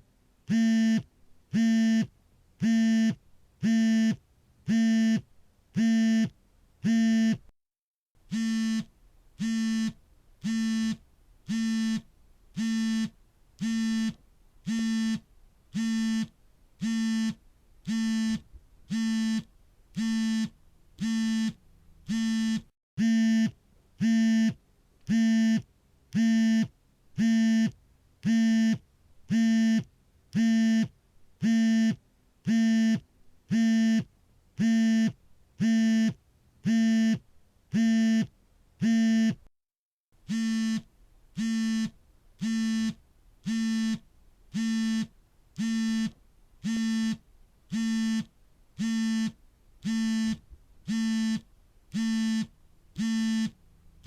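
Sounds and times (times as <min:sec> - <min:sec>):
smartphone vibrating: 0:00.5 - 0:05.2, 0:05.8 - 0:07.4, 0:08.3 - 0:12.0, 0:12.6 - 0:15.2, 0:15.8 - 0:25.6, 0:26.2 - 0:37.2, 0:37.8 - 0:39.4, 0:40.3 - 0:53.6.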